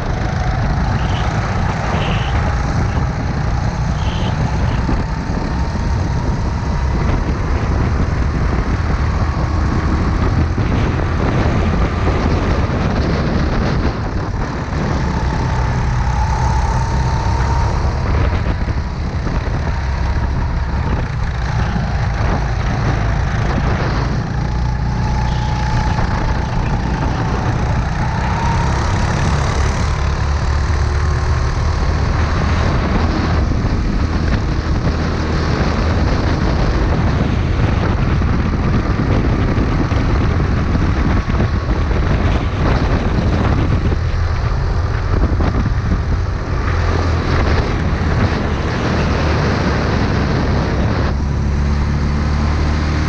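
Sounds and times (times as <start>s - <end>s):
go-kart engine revving: 0.0s - 53.0s
low rumble of motion and wind: 0.0s - 53.0s.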